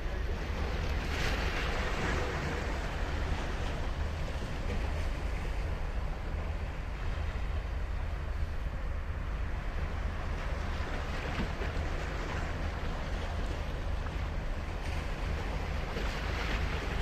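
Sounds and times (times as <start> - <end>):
surf on sandy beach: 0.0 - 17.0.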